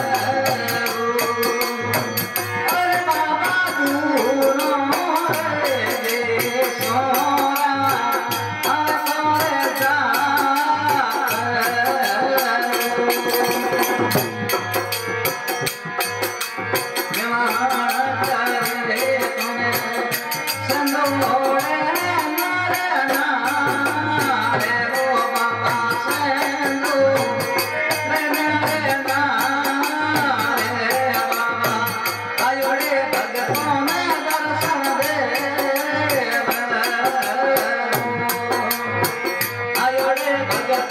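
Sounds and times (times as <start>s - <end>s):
man singing: 0.0s - 40.9s.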